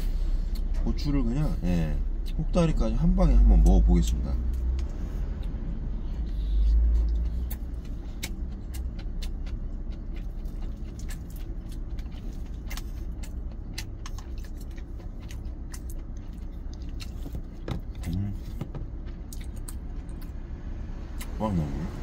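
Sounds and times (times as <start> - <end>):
low engine hum: 0.0 - 22.0
chewing with crunches: 3.6 - 22.0.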